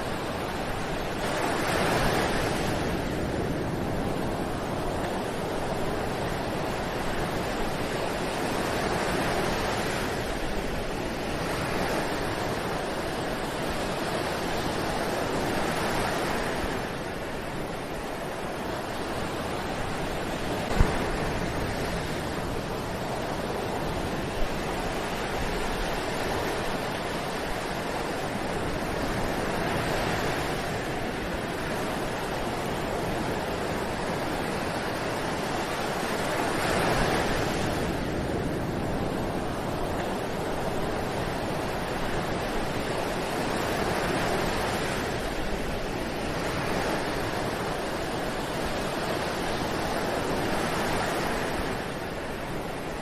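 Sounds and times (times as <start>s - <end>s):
waves washing on beach: 0.0s - 53.0s.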